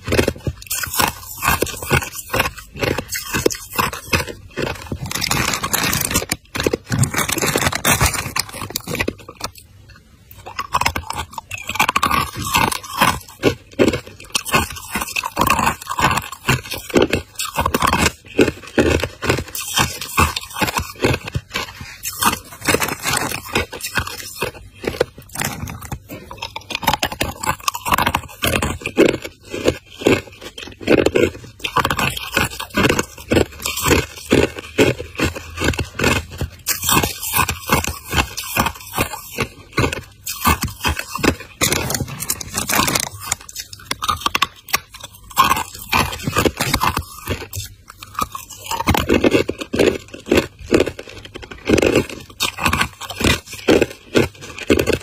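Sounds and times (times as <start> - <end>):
ice chunks crunching: 0.0 - 9.6, 10.3 - 55.0.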